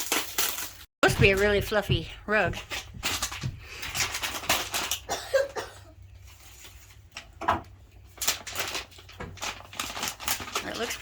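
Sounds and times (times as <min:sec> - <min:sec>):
plastic wrapping crinkling: 0:00.0 - 0:01.9, 0:02.5 - 0:11.0.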